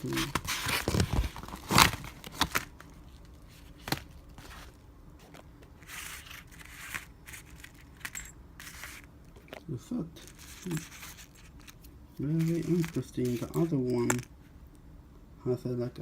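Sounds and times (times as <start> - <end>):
plastic packaging crinkling: 0.0 - 9.6, 10.2 - 14.2.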